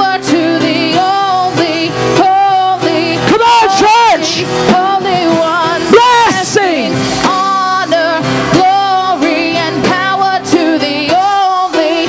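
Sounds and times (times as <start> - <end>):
person singing with vibrato: 0.0 - 12.0
sustained keyboard chords: 0.0 - 12.0.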